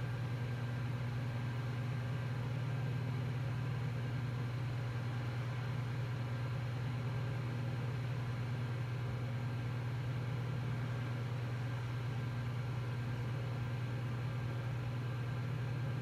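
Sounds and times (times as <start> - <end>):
computer fan and hard drive hum: 0.0 - 16.0.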